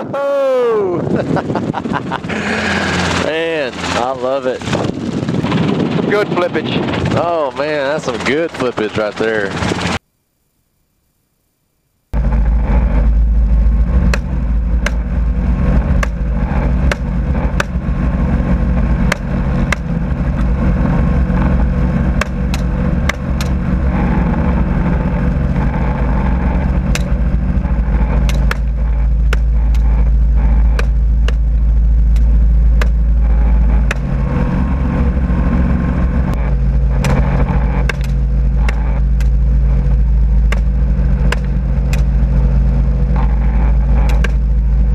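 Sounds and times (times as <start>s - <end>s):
helicopter engine and rotor drone: 1.0s - 10.0s, 12.1s - 44.9s.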